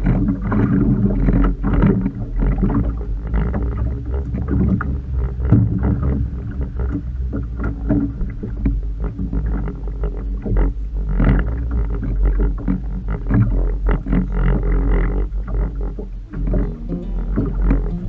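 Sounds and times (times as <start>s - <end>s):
boat engine low rumble: 0.0s - 18.0s.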